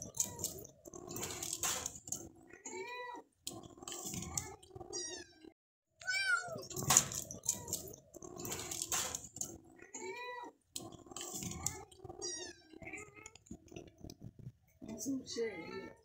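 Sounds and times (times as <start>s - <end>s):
cats meowing: 0.0s - 14.0s, 15.2s - 16.0s.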